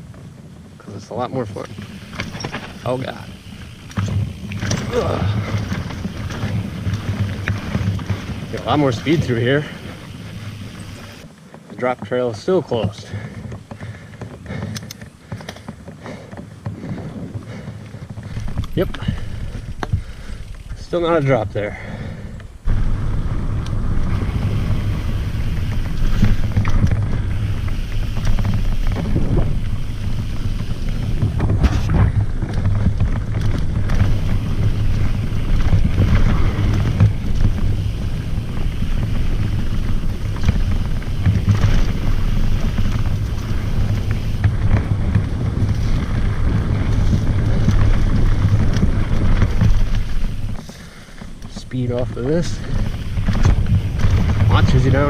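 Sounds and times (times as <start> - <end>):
wind rumbling on microphone: 0.0 - 11.6, 12.5 - 55.0
bike tyres on dirt trail: 0.0 - 55.0
knocks from trail bumps: 0.1 - 22.0, 22.7 - 55.0.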